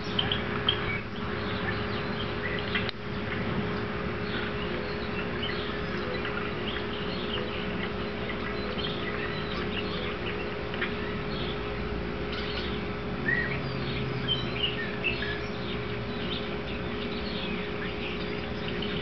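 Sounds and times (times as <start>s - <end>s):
bird chirps: 0.0s - 3.5s, 4.2s - 19.0s
steady low hum: 0.0s - 19.0s.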